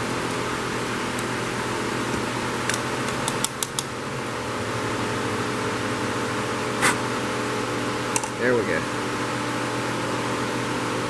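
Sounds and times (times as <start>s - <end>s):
electric fan whirring: 0.0s - 11.0s.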